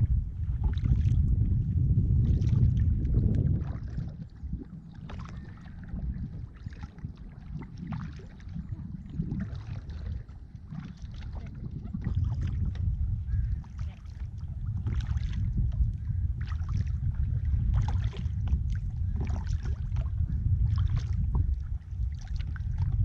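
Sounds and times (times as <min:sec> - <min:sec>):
wind buffeting microphone: 0:00.0 - 0:23.0
paddle strokes splashing water: 0:00.3 - 0:01.6, 0:02.2 - 0:23.0.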